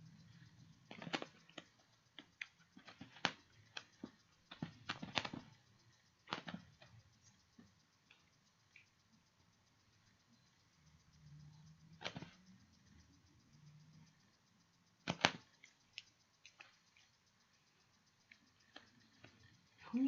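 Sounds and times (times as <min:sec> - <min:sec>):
faint clicks and taps: 0:00.0 - 0:20.0.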